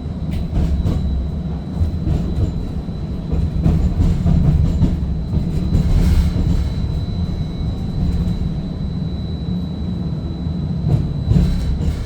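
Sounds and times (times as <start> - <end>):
streetcar wheels rumbling on rail: 0.0 - 12.0.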